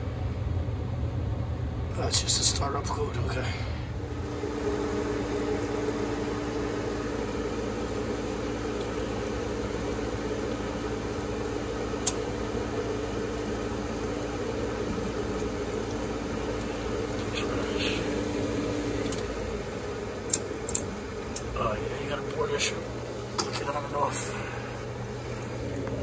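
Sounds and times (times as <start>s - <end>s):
furnace motor humming: 0.0s - 26.0s.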